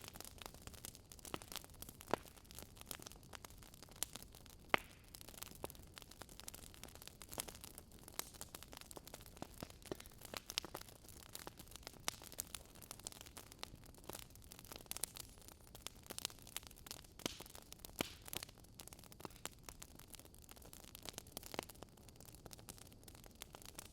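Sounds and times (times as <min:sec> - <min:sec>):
fire crackling: 0:00.0 - 0:23.9
fire popping: 0:00.0 - 0:23.9.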